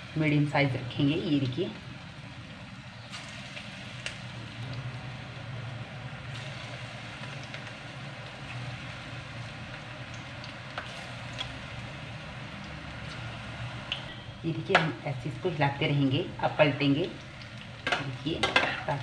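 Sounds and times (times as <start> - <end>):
food deep-frying in hot oil: 0.0 - 19.0
low steady hum: 0.0 - 19.0.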